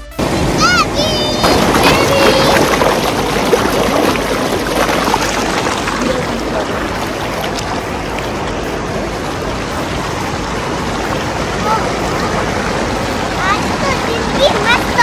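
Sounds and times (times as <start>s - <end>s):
river water rushing: 0.2s - 15.0s.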